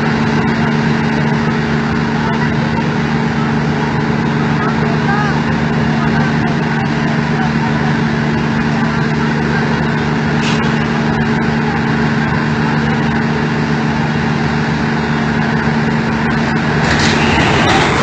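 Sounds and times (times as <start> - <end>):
fire engine running: 0.0 - 18.0.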